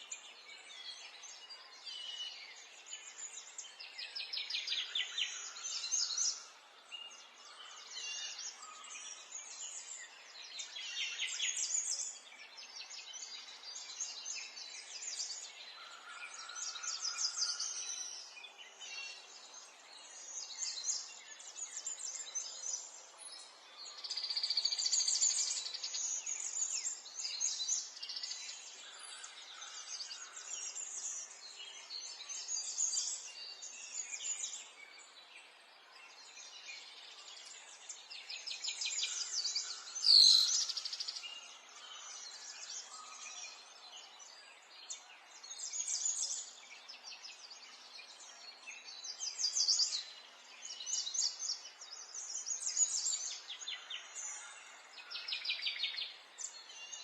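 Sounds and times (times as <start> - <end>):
songbirds chirping chorus: 0.0 - 57.0.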